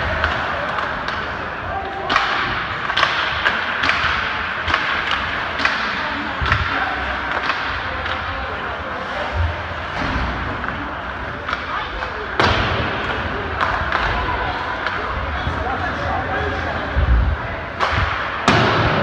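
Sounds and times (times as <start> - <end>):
hockey sticks and puck clacking: 0.0 - 17.0, 17.6 - 19.0
arena crowd noise: 0.0 - 19.0
voices: 0.0 - 19.0.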